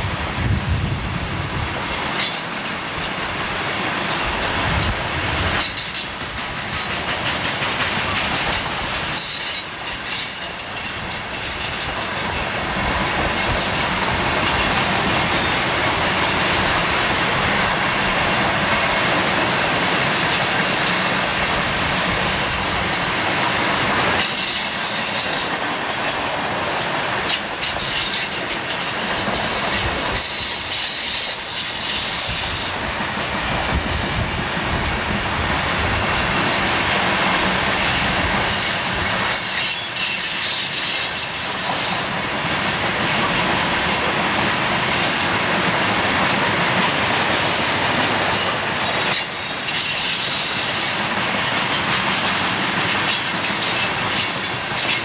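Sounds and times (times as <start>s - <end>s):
train wheels rumbling and clattering: 0.0s - 55.0s.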